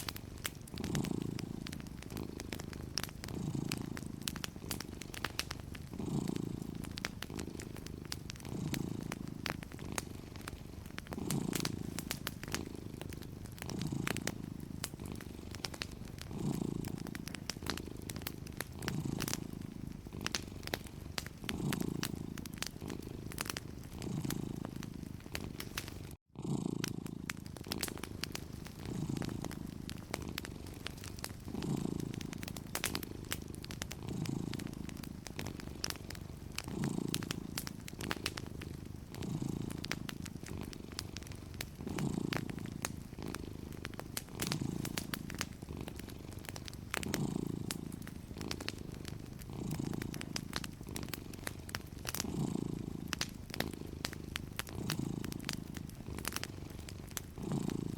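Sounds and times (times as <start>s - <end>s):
cat purring: 0.0s - 57.9s
wood fire crackling: 0.0s - 57.9s.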